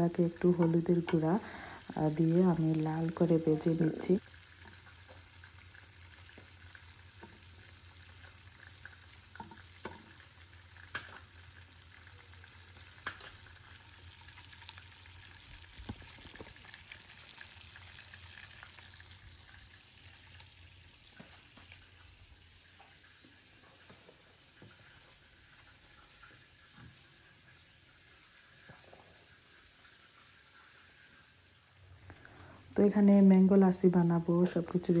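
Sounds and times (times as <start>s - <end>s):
oil sizzling in frying pans: 0.0s - 35.0s.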